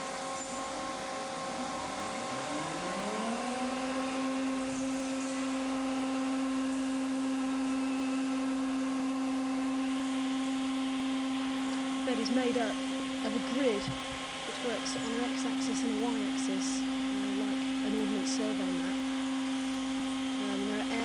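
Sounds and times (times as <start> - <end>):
electric motor hum: 0.0 - 21.0
machine drone: 0.0 - 21.0.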